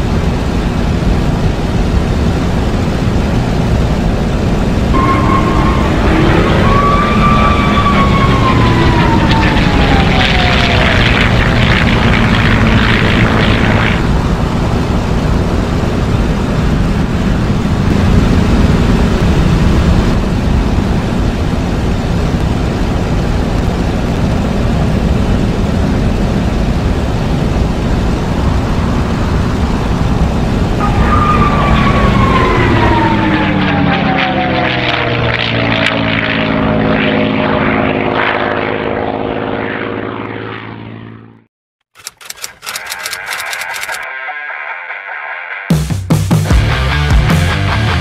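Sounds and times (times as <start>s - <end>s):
low engine rumble: 0.0s - 44.0s
propeller plane passing: 0.0s - 44.0s.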